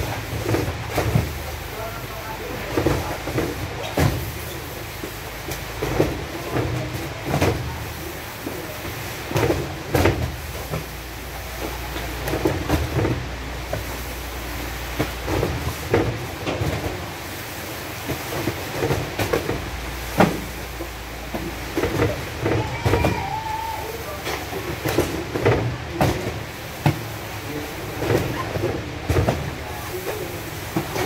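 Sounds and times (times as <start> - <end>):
cartons knocking and thudding: 0.0 - 7.9, 8.6 - 14.1, 14.9 - 17.2, 18.0 - 23.6, 24.2 - 31.0.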